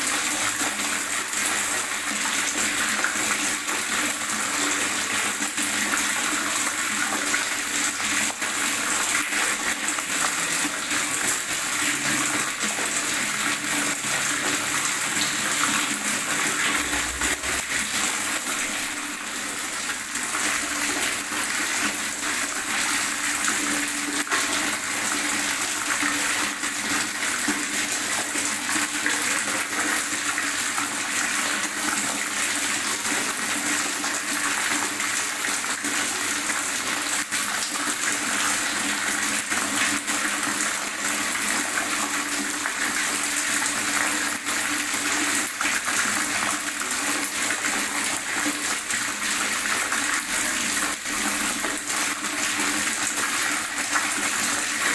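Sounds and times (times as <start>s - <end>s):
water gurgling: 0.0s - 54.9s.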